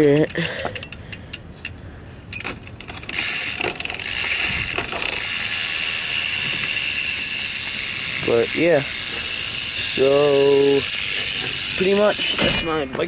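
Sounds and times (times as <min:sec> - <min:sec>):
bike hub ratcheting buzz: 0:00.0 - 0:12.8
hub clicks: 0:00.0 - 0:13.0.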